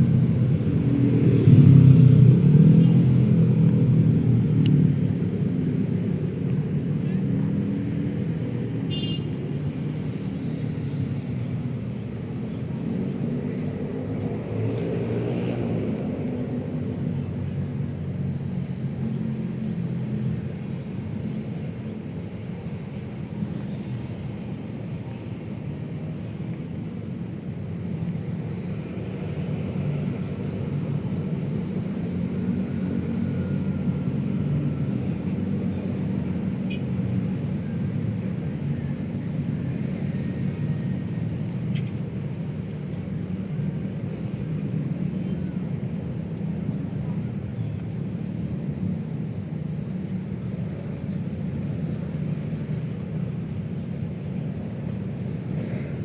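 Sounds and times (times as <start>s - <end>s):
city road traffic rumble: 0.0s - 56.0s.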